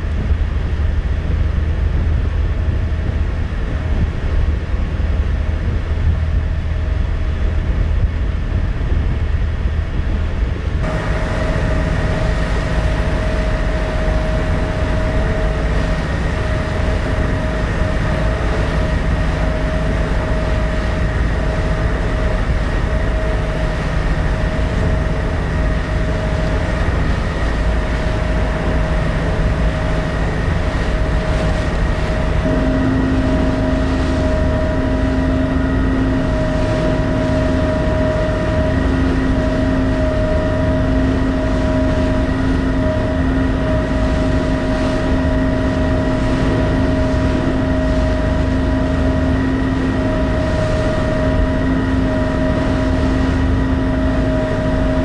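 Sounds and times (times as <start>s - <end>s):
machinery hum: 0.0s - 55.0s
ship engine rumble: 0.0s - 55.0s.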